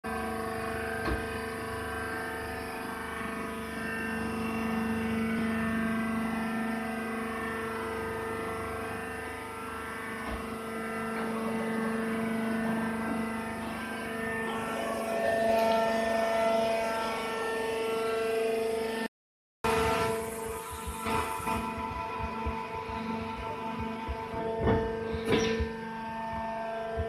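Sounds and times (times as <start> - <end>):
motor and pump drone: 0.1 - 27.0.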